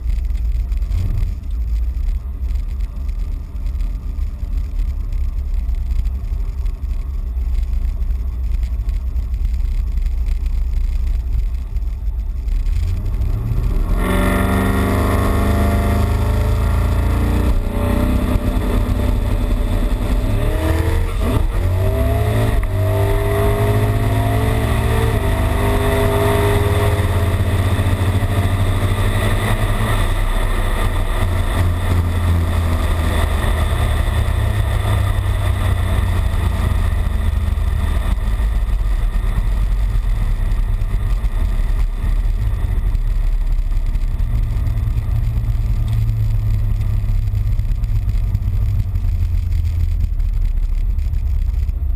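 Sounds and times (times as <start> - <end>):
car engine rumbling and revving: 0.0 - 51.9.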